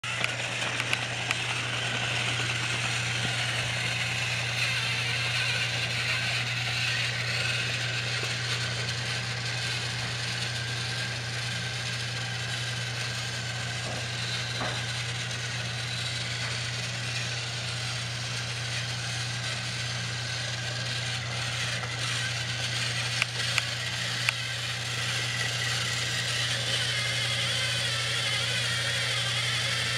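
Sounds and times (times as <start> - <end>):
toy train motor whirring: 0.0 - 29.9.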